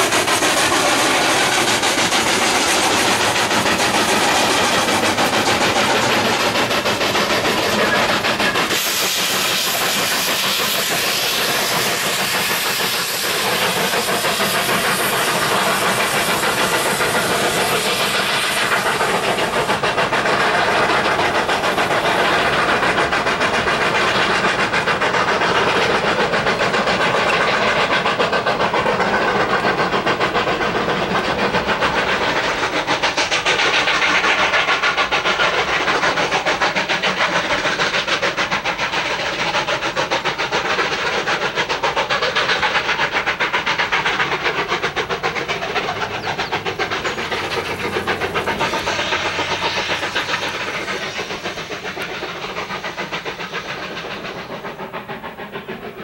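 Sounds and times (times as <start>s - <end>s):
steam locomotive exhaust beats: 0.0s - 56.0s.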